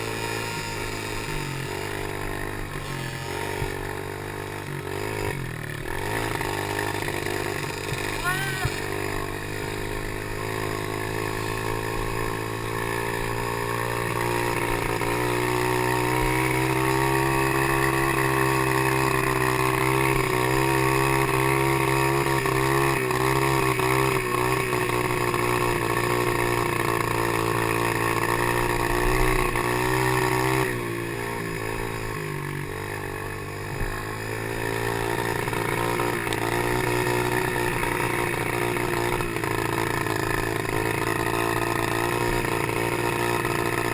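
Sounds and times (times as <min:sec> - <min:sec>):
pit bike engine revving: 0:00.0 - 0:43.9.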